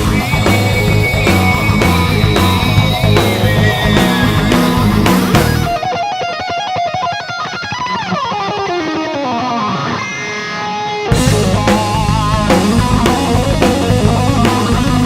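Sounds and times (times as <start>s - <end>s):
electric guitar fast notes and slide: 0.0s - 15.0s
rock band with drums and bass: 0.0s - 15.0s.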